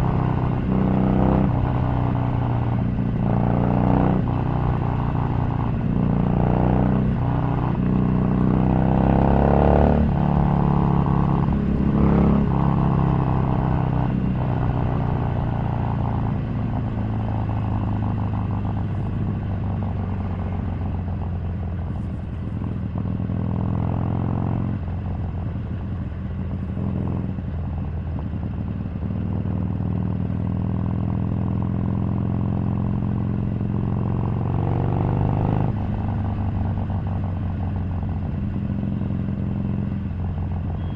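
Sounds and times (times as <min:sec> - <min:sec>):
motorcycle engine revving: 0:00.0 - 0:21.1, 0:29.1 - 0:40.9.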